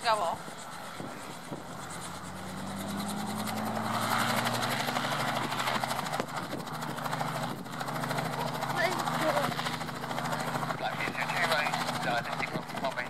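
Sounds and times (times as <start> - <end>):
helicopter engine hum: 0.0 - 13.0
rotor blades chopping: 0.0 - 13.0.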